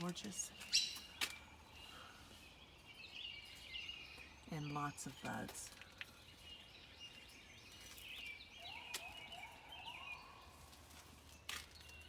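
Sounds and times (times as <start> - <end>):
faint songbirds chirping: 0.0 - 12.0.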